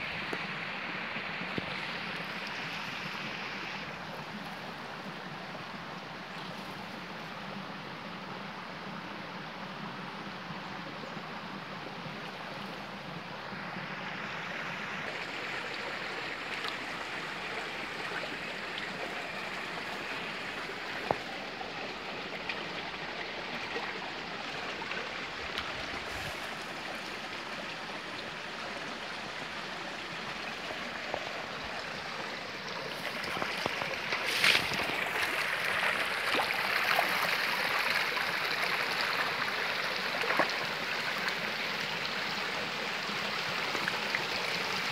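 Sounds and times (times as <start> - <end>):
stream trickling and gurgling: 0.0 - 44.9.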